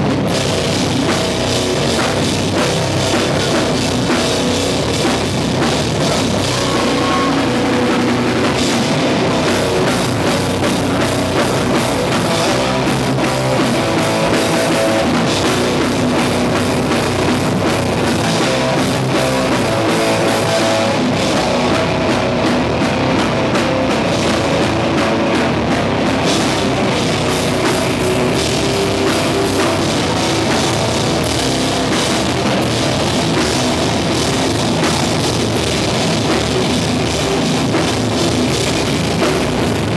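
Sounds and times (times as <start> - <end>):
bass guitar: 0.0 - 39.9
distorted electric guitars: 0.0 - 39.9
pounding drum kit: 0.0 - 39.9.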